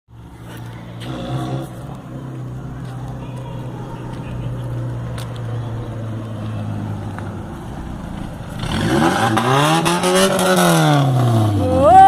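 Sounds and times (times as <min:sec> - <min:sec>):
car engine revving: 0:00.4 - 0:02.6, 0:03.6 - 0:12.0.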